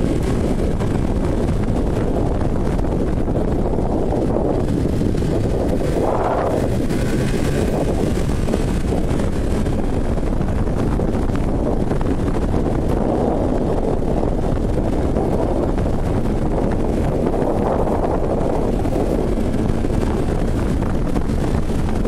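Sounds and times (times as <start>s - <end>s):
snowmobile engine running: 0.0s - 22.0s
wind noise on microphone: 0.0s - 22.0s.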